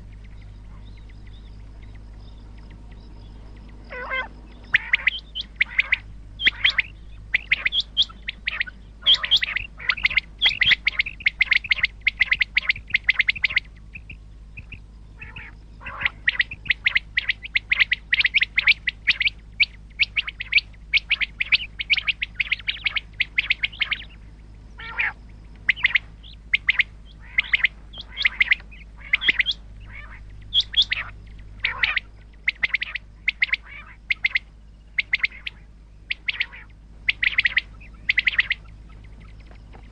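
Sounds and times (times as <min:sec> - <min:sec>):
quail chirping: 0:00.0 - 0:39.9.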